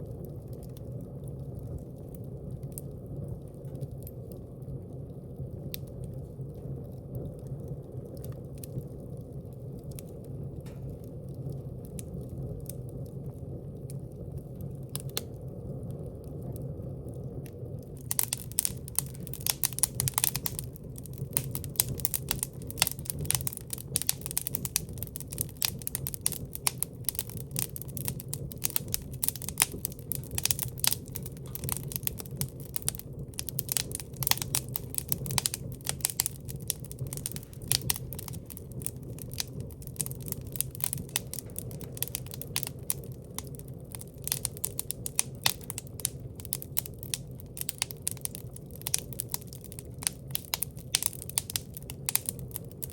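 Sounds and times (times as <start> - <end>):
low fire rumble: 0.0 - 52.9
wood fire crackling and popping: 0.0 - 52.9.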